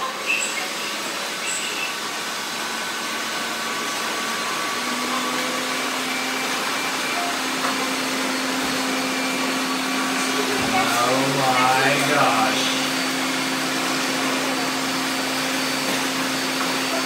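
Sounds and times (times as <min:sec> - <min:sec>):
robot vacuums whirring: 0:00.0 - 0:17.0.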